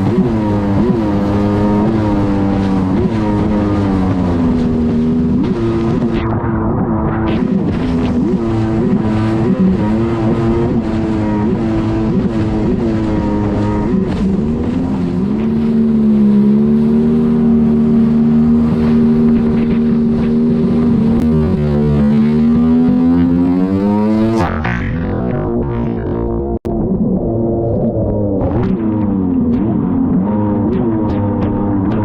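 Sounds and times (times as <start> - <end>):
jet ski engine running: 0.0 - 32.0.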